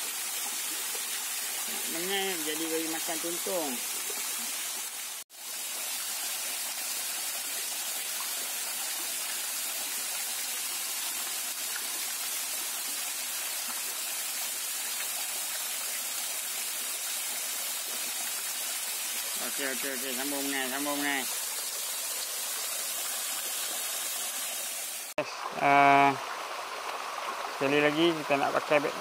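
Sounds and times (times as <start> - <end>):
stream water flowing: 0.0 - 29.0.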